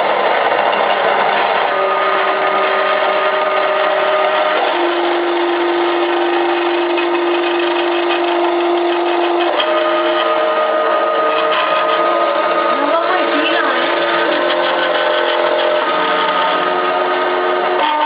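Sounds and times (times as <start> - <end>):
milling machine whirring: 0.0 - 18.0
stepper motor whine: 0.0 - 18.0.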